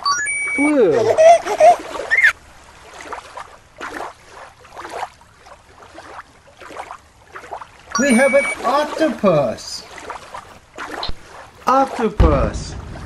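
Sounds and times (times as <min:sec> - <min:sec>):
water sloshing and lapping: 0:00.0 - 0:13.0.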